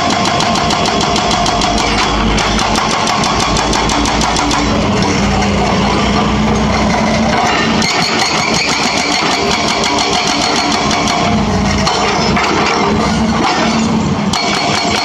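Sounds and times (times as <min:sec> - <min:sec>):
diesel engine running: 0:00.0 - 0:14.4
hydraulic breaker hammering concrete: 0:00.0 - 0:15.0.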